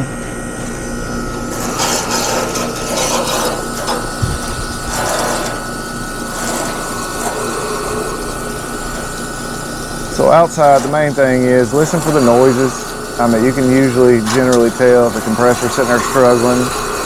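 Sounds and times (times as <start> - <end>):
steady hum: 0.0 - 17.0
hose spraying water on metal coil: 1.5 - 17.0.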